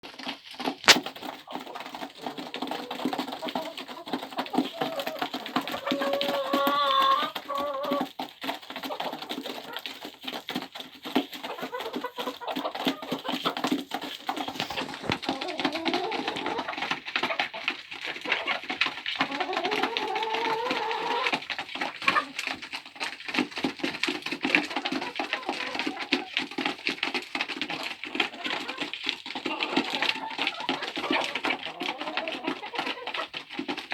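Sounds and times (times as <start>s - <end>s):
chicken calls: 0.0s - 33.9s
chickens pecking at feed: 0.0s - 33.9s.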